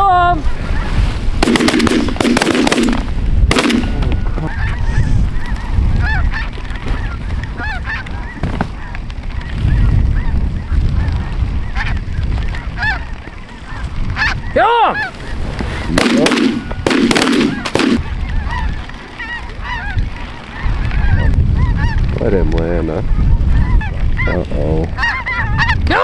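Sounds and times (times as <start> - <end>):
geese honking: 0.4 - 22.1, 23.0 - 26.0.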